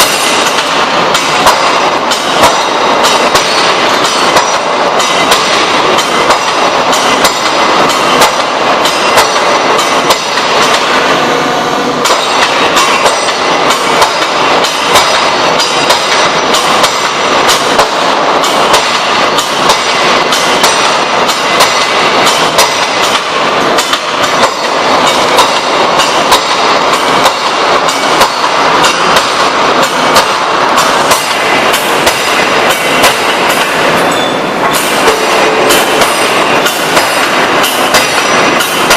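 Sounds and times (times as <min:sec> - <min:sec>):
forging hammer clanking blows: 0:00.0 - 0:11.0, 0:12.0 - 0:38.9.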